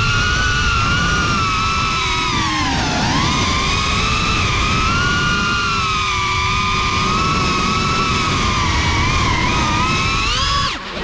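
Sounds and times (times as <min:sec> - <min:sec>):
drone motors whining: 0:00.0 - 0:11.0
low rumble of prop wash and wind: 0:00.0 - 0:11.0.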